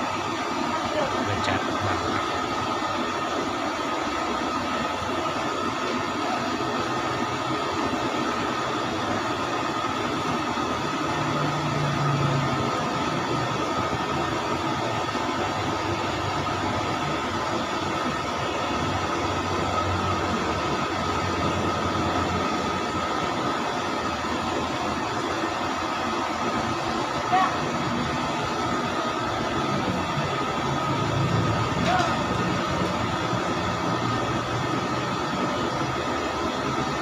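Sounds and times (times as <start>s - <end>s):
machine roar with high whine: 0.0s - 37.0s.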